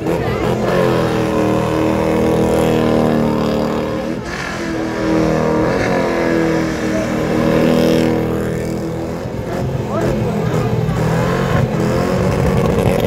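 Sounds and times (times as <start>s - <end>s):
car engine revving high: 0.0s - 13.0s.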